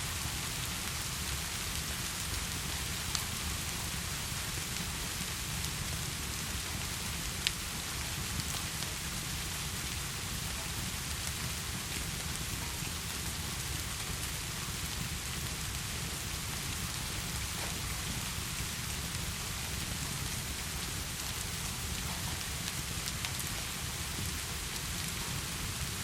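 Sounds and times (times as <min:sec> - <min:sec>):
heavy rain falling: 0:00.1 - 0:26.0.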